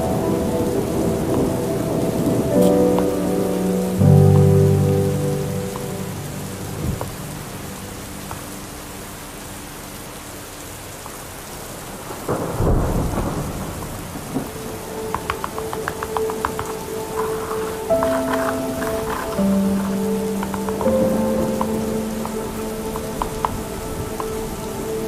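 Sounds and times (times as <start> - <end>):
thunder rumble: 0.0 - 9.2, 11.8 - 25.0
music tones: 0.0 - 10.4, 14.4 - 25.0
rain hiss: 0.0 - 25.0.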